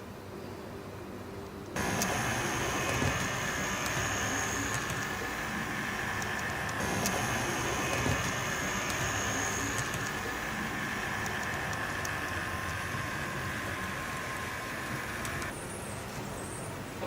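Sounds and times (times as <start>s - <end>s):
wheels clicking over rails: 1.7s - 17.0s
model train motor whining: 1.8s - 16.9s.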